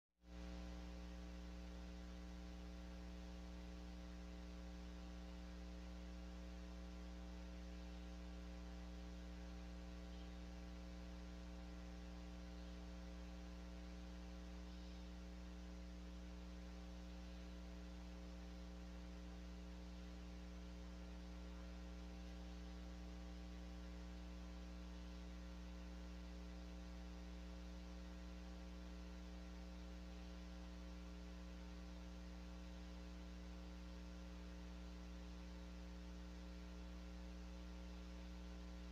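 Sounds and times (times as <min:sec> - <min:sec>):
faint electrical hum: 0:00.3 - 0:38.9.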